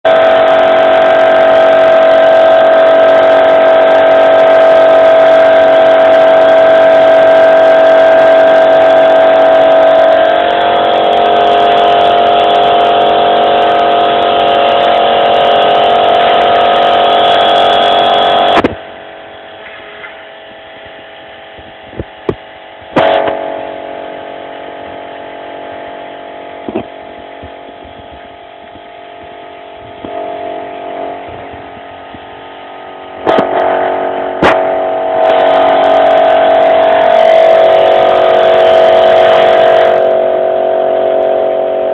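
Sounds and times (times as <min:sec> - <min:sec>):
electric motor whining: 0:00.1 - 0:41.9.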